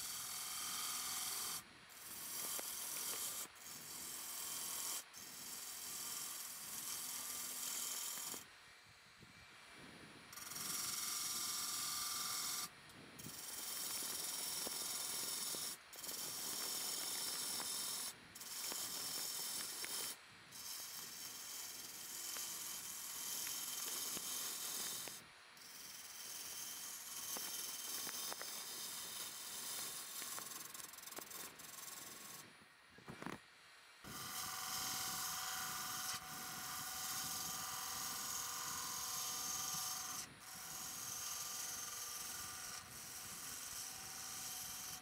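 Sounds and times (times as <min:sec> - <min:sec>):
gouge cutting wood on a lathe: 0:00.0 - 0:08.5, 0:10.3 - 0:32.5, 0:34.1 - 0:45.0.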